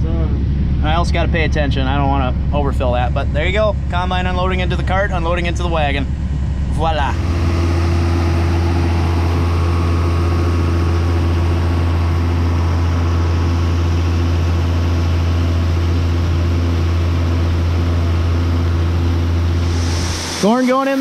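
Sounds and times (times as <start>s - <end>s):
farm machinery engine droning: 0.0s - 21.0s.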